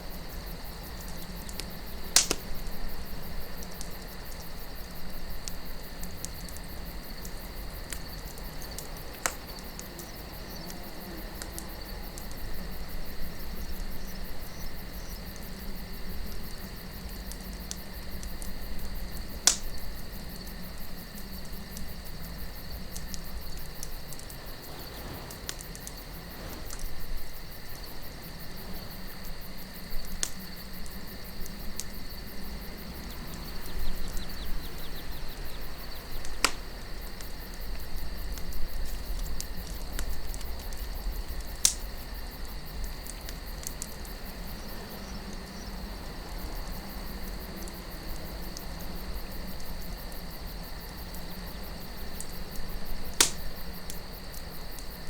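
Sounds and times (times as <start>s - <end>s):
campfire wood pops: 0.0s - 45.5s, 46.7s - 55.0s
crickets chirping: 0.0s - 55.0s
low wind rumble: 0.0s - 55.0s.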